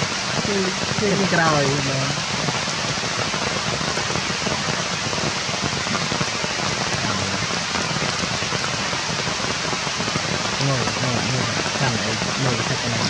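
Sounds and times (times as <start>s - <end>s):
rain falling on leaves: 0.0s - 13.0s.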